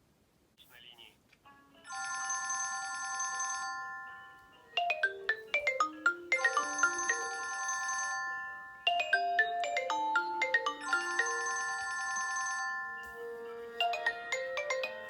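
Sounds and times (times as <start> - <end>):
phone ringtone: 1.9 - 15.0.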